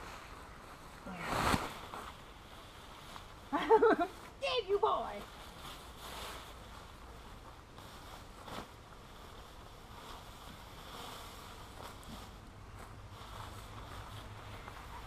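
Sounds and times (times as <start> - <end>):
tarp fabric rustling: 0.0 - 15.0.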